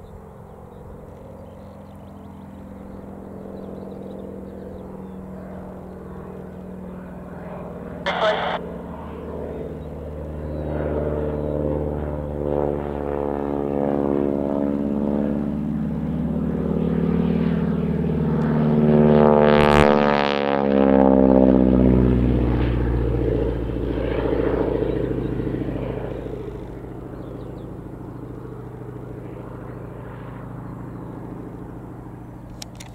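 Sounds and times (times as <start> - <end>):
propeller plane radial engine: 0.0 - 32.9.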